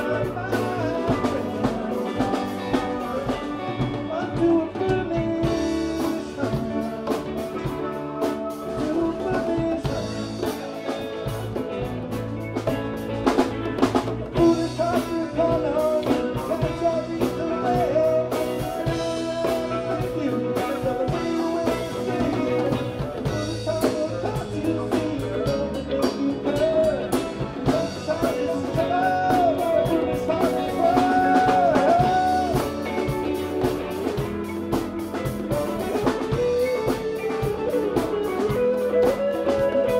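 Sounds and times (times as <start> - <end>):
bending lead guitar line: 0.0 - 39.9
live rock band playing: 0.0 - 39.9.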